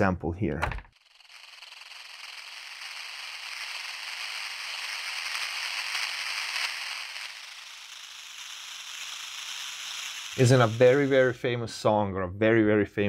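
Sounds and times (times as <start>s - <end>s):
crackling hissing noise texture: 0.9s - 11.9s.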